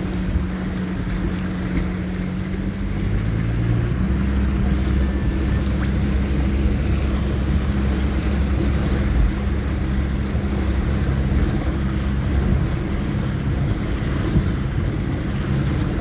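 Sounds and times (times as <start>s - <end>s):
vehicle engine running: 0.0s - 16.0s
water rushing around vehicle: 0.0s - 16.0s.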